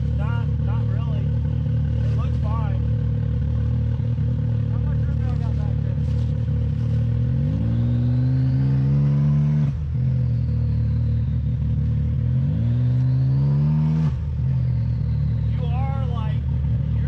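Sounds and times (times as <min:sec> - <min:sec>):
engine idling and revving: 0:00.0 - 0:17.0.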